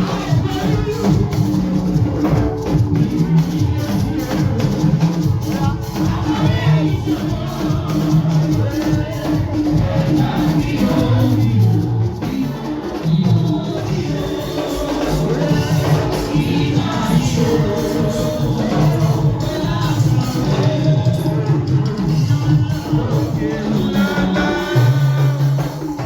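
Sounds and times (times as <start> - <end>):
hand percussion: 0.0 - 26.0
voices singing gospel music: 0.0 - 26.0.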